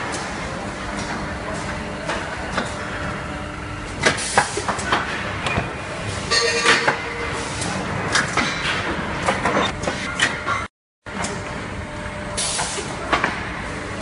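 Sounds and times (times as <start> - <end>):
conveyor machinery running: 0.0 - 10.2, 11.1 - 14.0.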